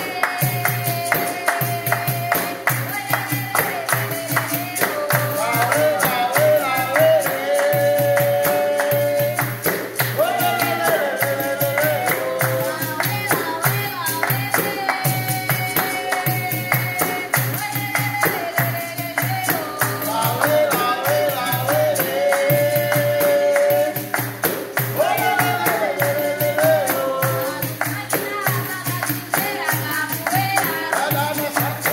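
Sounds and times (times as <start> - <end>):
person singing: 0.0 - 9.6, 10.2 - 24.2, 25.0 - 31.9
handclaps: 0.0 - 31.9
tambourine jingles: 0.0 - 31.9.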